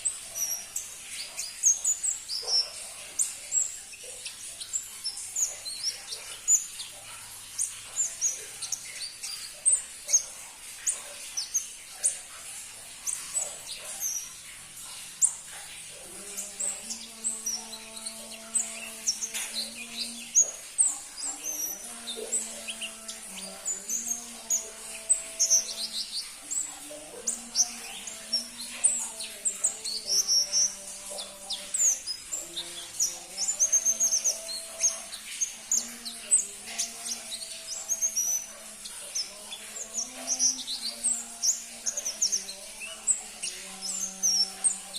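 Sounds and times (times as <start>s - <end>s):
bird chirping high-pitched: 0.0s - 44.9s.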